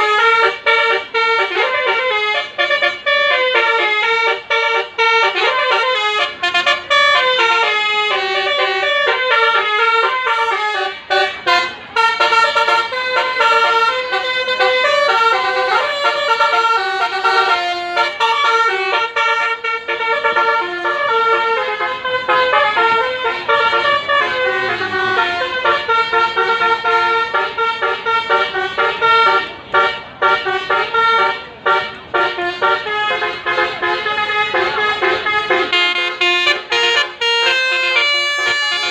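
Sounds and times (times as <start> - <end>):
musical bus air horns: 0.0 - 38.9.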